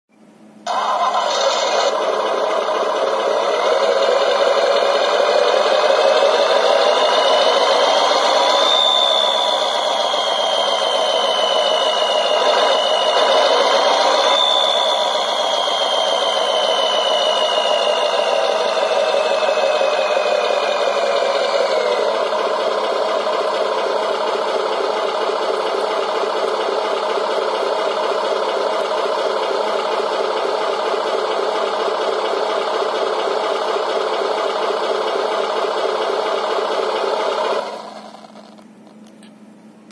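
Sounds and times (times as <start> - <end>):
simulated engine through small speaker: 0.6 - 39.3.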